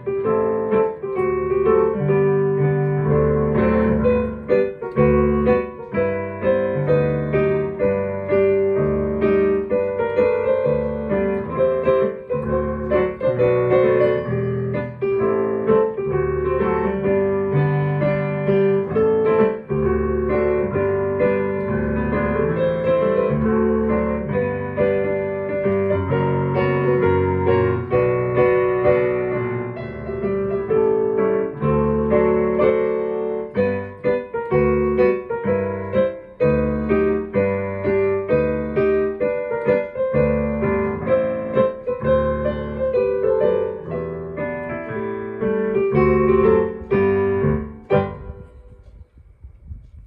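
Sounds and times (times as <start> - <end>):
digital piano playing show tune: 0.0 - 49.5.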